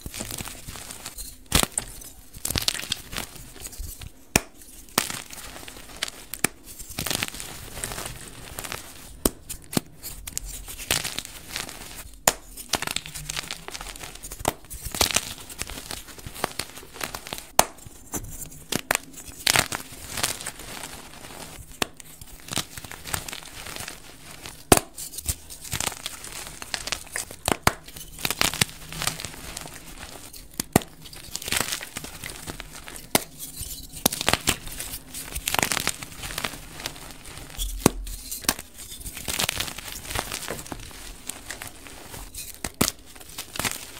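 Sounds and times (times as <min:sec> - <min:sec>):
chalk pieces snapping: 0:00.1 - 0:20.6, 0:21.6 - 0:43.9.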